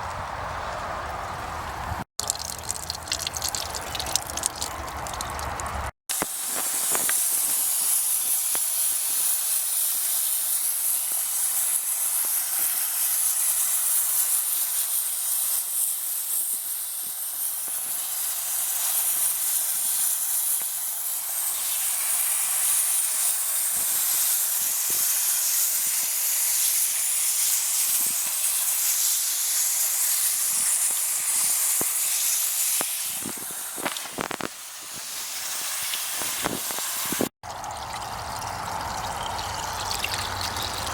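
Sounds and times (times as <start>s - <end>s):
hose water spraying hiss: 2.2s - 37.3s.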